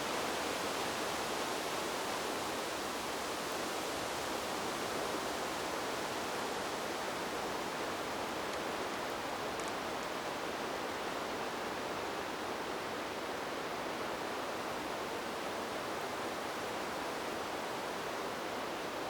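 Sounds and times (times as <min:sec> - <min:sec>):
wind in trees: 0:00.0 - 0:19.0.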